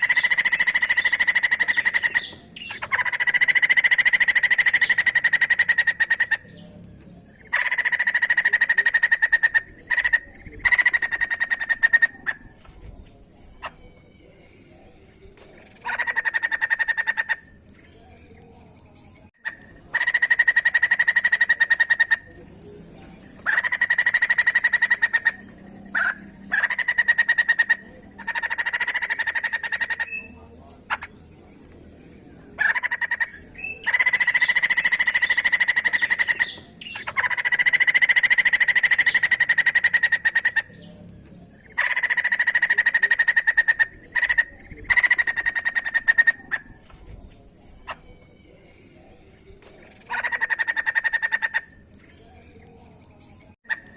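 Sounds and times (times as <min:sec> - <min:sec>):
bird chattering calls: 0:00.0 - 0:14.2, 0:15.0 - 0:18.6, 0:19.4 - 0:53.9.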